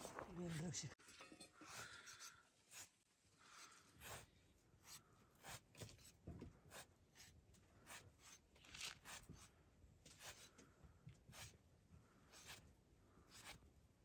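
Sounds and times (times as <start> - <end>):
sickle rasping through wool: 1.5 - 11.6, 12.2 - 13.7.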